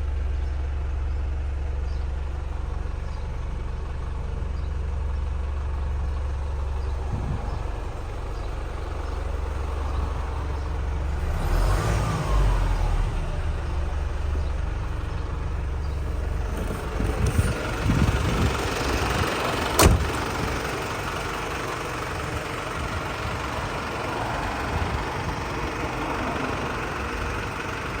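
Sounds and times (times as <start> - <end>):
truck diesel engine idling: 0.0 - 28.0.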